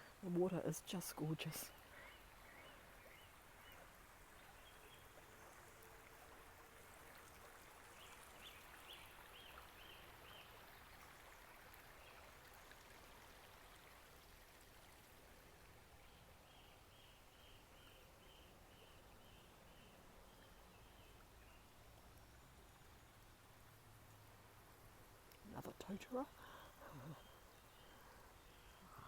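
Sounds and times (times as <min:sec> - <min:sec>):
faint creek trickling: 0:00.0 - 0:29.0.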